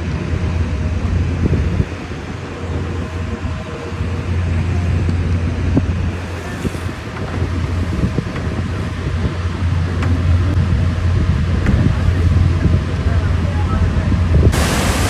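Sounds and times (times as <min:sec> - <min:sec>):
waterfall roaring: 0:00.0 - 0:15.0
wind on microphone: 0:00.0 - 0:15.0.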